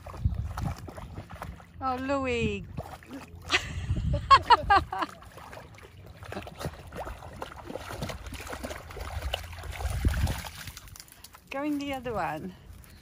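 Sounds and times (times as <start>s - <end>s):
dog splashing through water: 0.0s - 3.9s, 4.5s - 12.9s.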